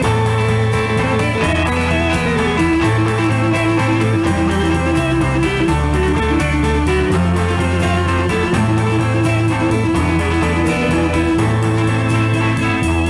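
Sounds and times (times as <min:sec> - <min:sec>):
drums: 0:00.0 - 0:13.0
electric guitar picking chords: 0:00.0 - 0:13.0
sustained bass line: 0:00.0 - 0:13.0.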